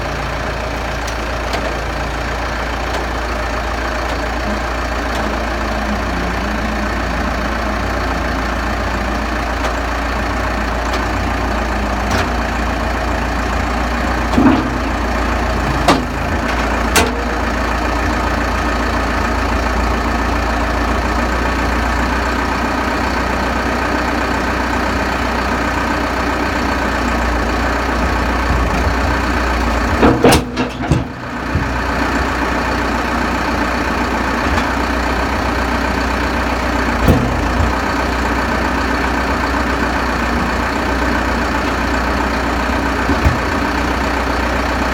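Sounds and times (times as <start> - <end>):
clunks: 0.0 - 44.9
diesel engine idling: 0.0 - 44.9.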